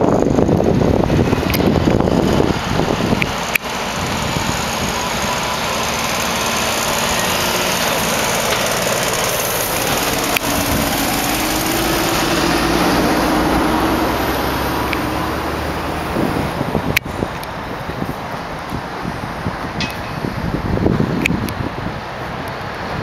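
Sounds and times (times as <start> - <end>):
diesel truck engine at low revs: 0.0 - 23.0.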